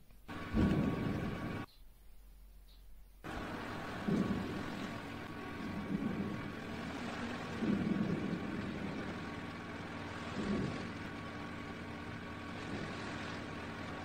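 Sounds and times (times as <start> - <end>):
volcano rumbling: 0.3 - 1.7, 3.3 - 14.0.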